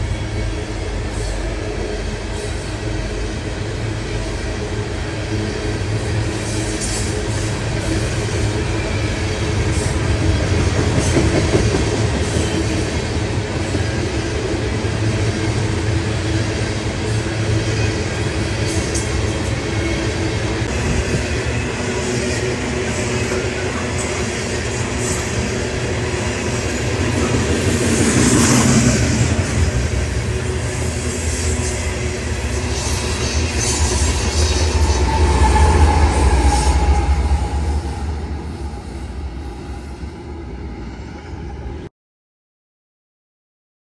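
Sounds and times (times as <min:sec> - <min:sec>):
diesel locomotive engine rumble: 0:00.0 - 0:41.9
train wheels rushing on rails: 0:00.0 - 0:41.9.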